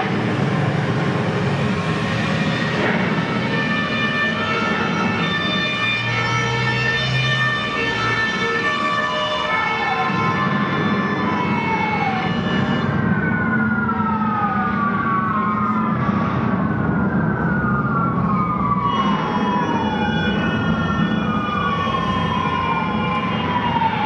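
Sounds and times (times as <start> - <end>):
fire engine siren wailing: 0.0 - 24.0.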